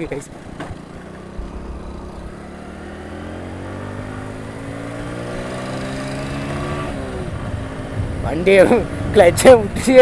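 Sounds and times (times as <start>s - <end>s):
motorcycle engine accelerating: 0.3s - 9.2s.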